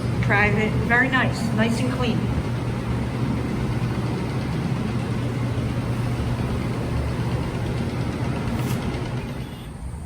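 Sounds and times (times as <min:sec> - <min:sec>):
low mechanical hum: 0:00.0 - 0:10.0
noisy wash: 0:00.0 - 0:10.0.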